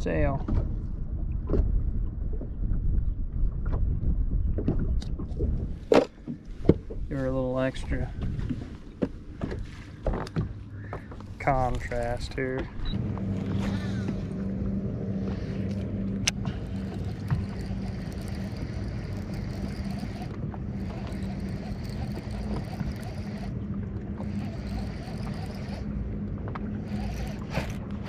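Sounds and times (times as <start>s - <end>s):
water noise: 0.0s - 28.0s
wind: 0.0s - 28.0s
boat motor humming: 5.2s - 28.0s.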